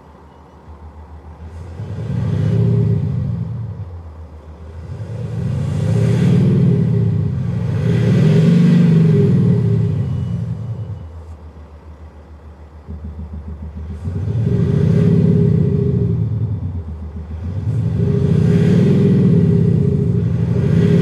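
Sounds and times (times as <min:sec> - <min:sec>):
synthesised exhaust rumble revving: 0:00.7 - 0:21.0.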